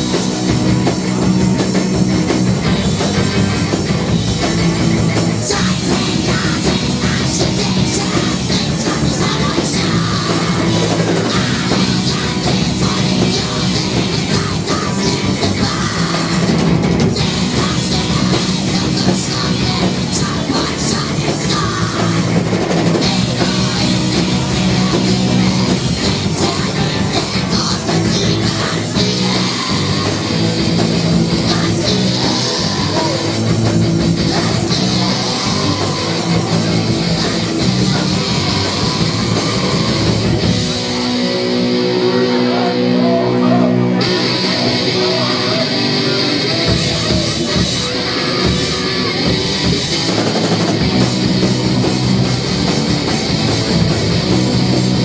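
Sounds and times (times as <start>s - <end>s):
loud distorted electric guitars: 0.0s - 55.0s
rock band playing live: 0.0s - 55.0s.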